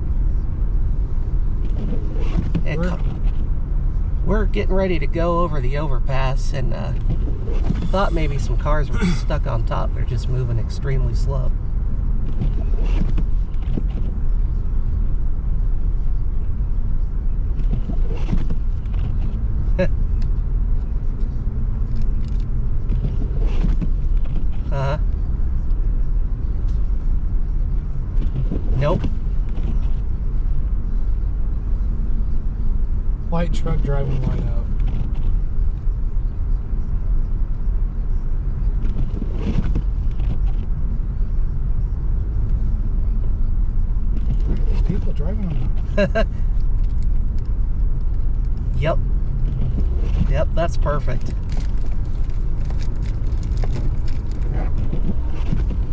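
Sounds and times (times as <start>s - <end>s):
car driving on slushy road: 0.0s - 55.9s.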